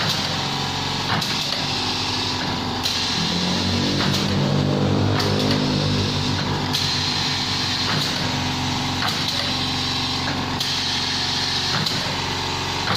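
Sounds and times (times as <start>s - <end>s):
machine motor hum: 0.1s - 12.9s.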